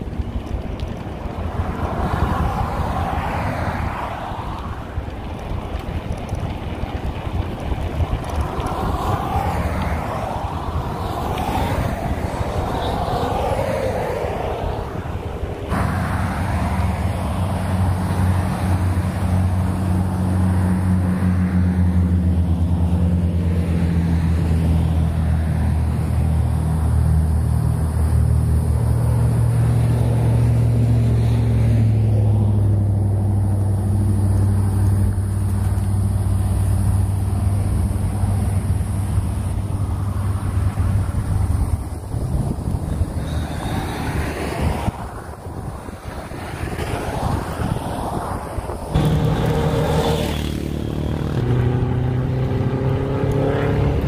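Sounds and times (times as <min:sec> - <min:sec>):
low engine hum: 0:00.0 - 0:54.0
wind noise on microphone: 0:00.0 - 0:54.0.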